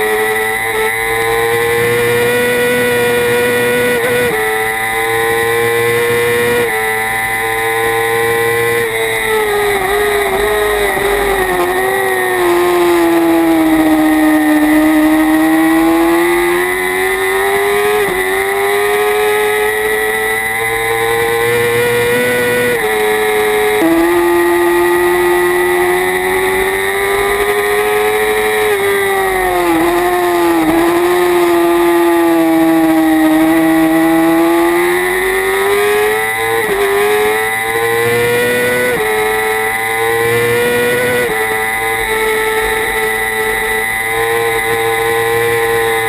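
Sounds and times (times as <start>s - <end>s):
motorcycle engine at high revs: 0.0s - 46.0s.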